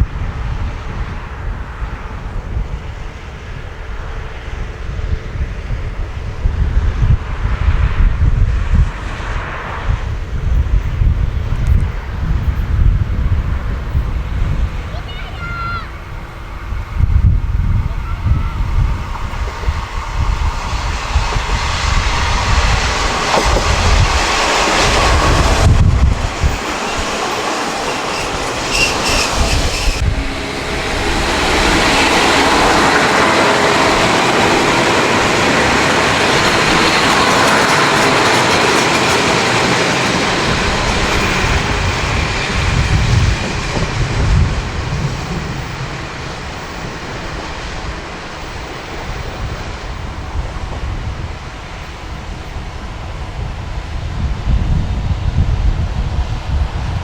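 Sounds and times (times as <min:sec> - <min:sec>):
diesel railcar rumble and wheel clatter: 0:00.0 - 0:57.0
wind buffeting microphone: 0:00.0 - 0:57.0.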